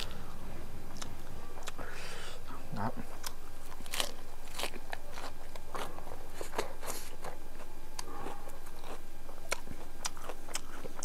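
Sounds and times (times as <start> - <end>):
person chewing crunchy food: 0.0 - 0.2, 0.9 - 11.0.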